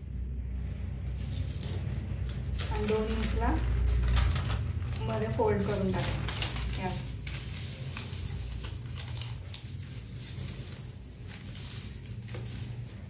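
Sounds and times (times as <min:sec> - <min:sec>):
newspaper rustling and crinkling: 0:00.9 - 0:13.0.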